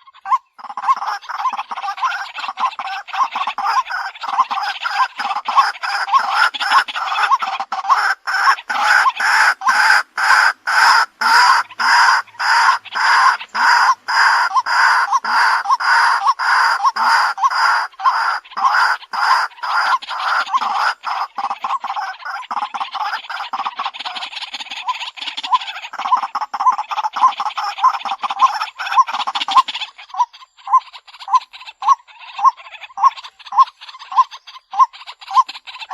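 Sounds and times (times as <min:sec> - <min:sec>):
waterhen calling harsh notes: 0:00.0 - 0:35.9.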